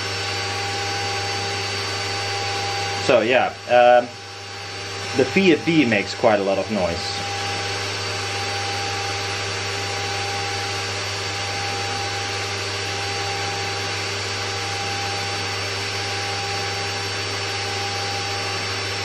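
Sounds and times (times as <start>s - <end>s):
cooling fan rushing: 0.0s - 19.0s
spindle whine: 0.0s - 19.0s.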